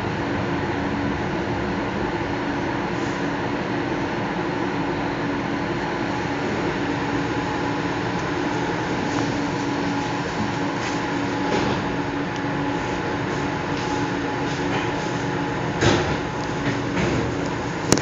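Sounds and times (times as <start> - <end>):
constant hum: 0.0 - 18.0
train running rumble: 0.0 - 18.0.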